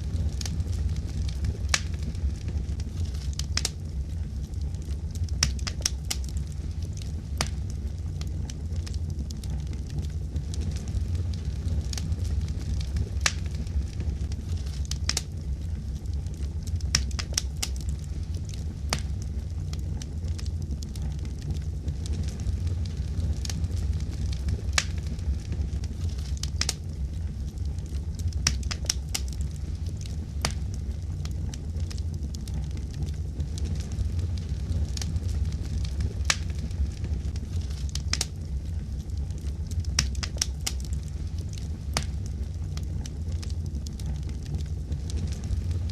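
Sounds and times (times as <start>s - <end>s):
fire crackling and popping: 0.0s - 45.9s
low rumble: 0.0s - 45.9s.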